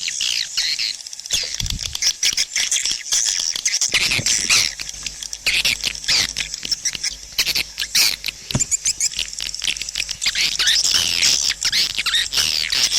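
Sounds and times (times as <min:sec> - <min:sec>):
swiftlets twittering and chirping: 0:00.0 - 0:12.9.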